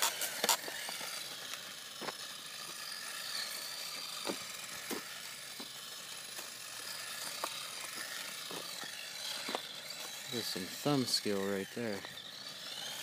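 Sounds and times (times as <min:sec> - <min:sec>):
electric motor whine: 0:00.0 - 0:13.0
tires sliding on asphalt: 0:00.0 - 0:13.0.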